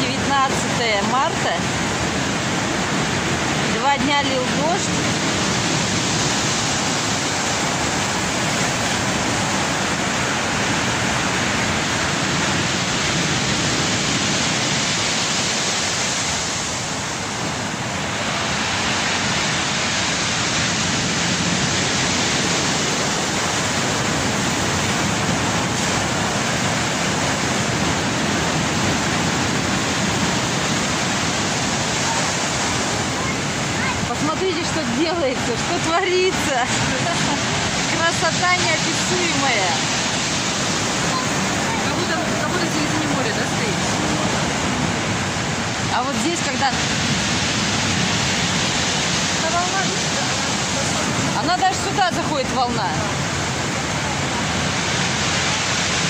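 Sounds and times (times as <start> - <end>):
heavy waves breaking on shore: 0.0 - 56.0.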